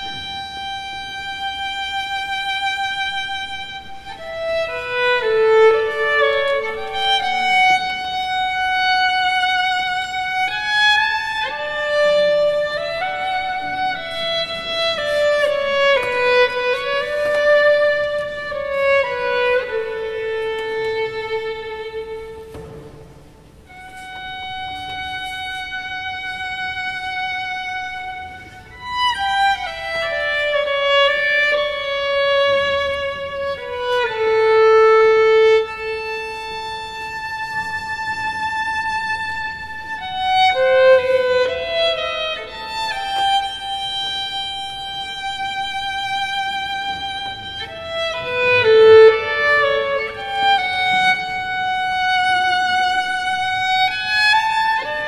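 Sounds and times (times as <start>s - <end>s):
solo violin melody: 0.0s - 55.0s.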